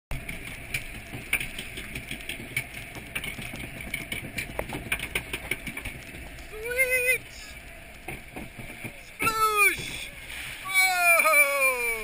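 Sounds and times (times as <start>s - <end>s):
mechanical hum: 0.1s - 12.0s.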